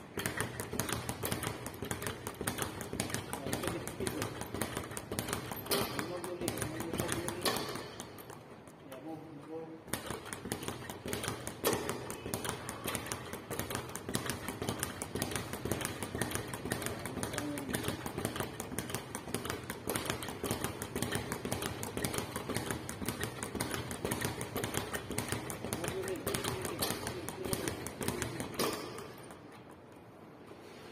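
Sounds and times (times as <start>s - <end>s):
speed bag rattling: 0.0s - 8.6s, 9.9s - 30.1s.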